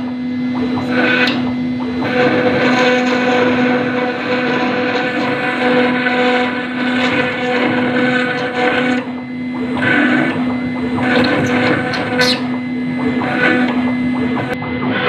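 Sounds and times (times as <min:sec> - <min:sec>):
router spindle humming: 0:00.0 - 0:15.0
bit grinding into stone: 0:00.8 - 0:15.0.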